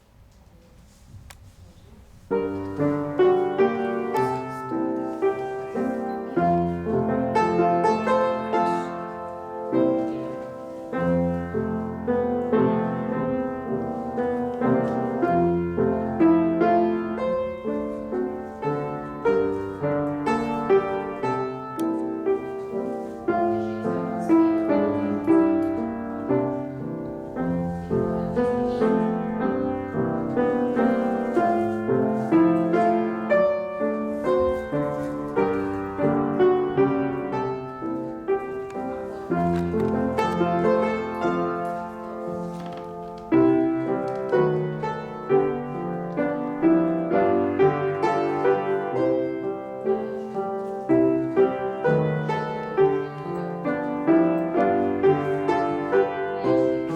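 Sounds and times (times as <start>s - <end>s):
piano playing: 2.0s - 56.9s.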